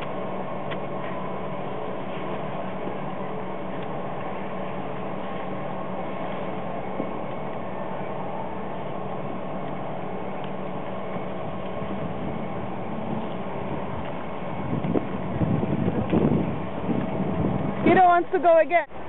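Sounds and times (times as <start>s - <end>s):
machine hum with held tones: 0.0s - 19.0s.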